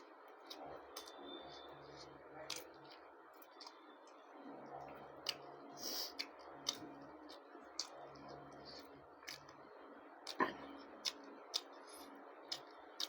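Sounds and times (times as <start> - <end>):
wet mouth clicks while chewing: 0.4 - 4.2, 5.2 - 9.6, 10.2 - 13.0.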